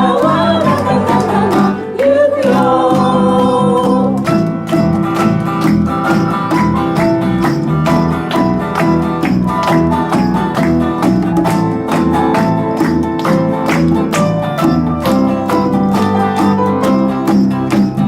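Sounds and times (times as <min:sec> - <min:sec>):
cajon beat: 0:00.0 - 0:18.0
strummed acoustic guitar: 0:00.0 - 0:18.0.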